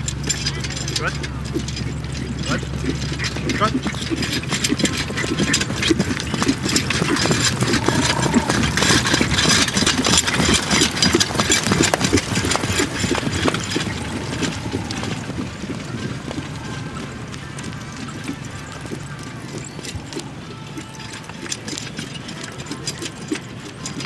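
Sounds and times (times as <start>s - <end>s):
carriage rumbling and rattling: 0.0s - 24.0s
horse hoofbeats on grass: 0.0s - 24.0s.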